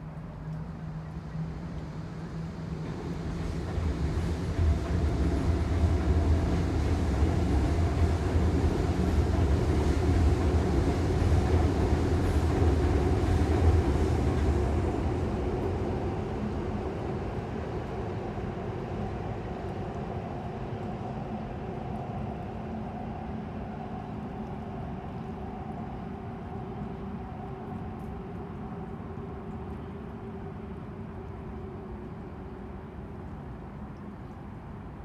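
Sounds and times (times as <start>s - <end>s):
subway train rumbling: 0.0s - 35.0s.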